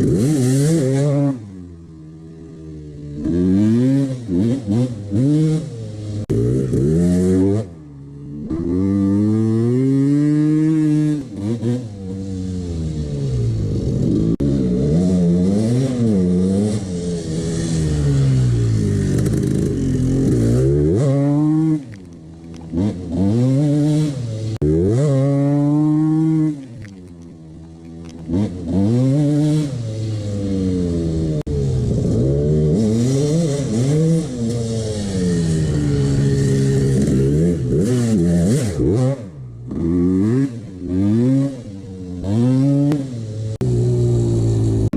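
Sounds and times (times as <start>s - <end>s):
two-stroke engine revving: 0.0s - 44.9s.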